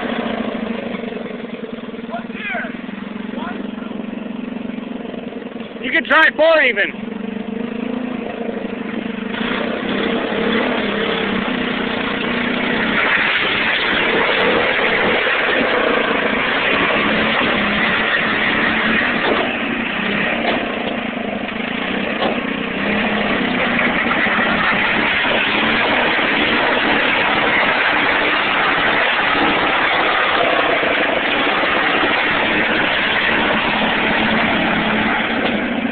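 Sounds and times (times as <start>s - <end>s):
tractor engine under load: 0.0s - 35.9s.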